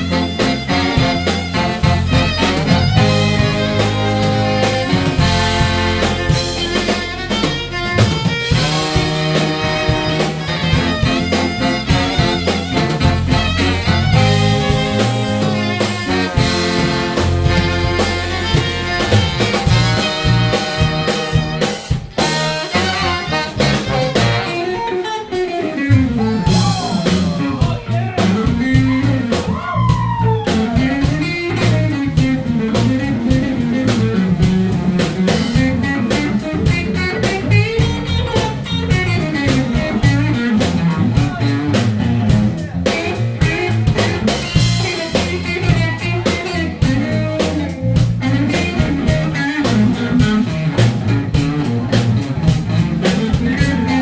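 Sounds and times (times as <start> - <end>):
band playing: 0.0 - 54.0
sliding lead melody: 0.0 - 54.0.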